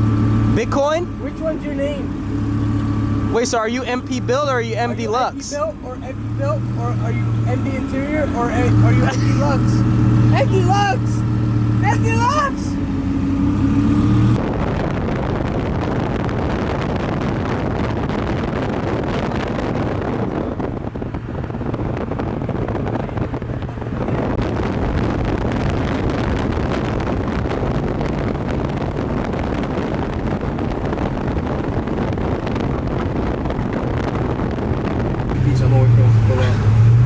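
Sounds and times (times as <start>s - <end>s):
car engine running: 0.0s - 37.0s
wind buffeting microphone: 0.0s - 37.0s.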